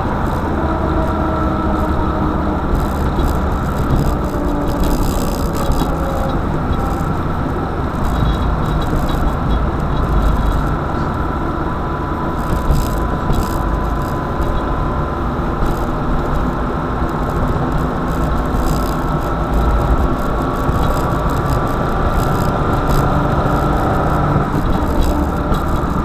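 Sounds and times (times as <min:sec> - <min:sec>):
car engine and road rumble: 0:00.0 - 0:26.0
faint steady whine: 0:00.0 - 0:26.0.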